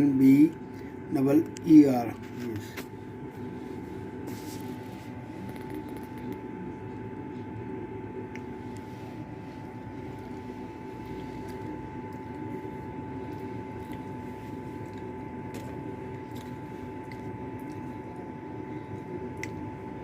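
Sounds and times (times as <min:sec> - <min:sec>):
workshop machine hum and whine: 0:00.0 - 0:20.0.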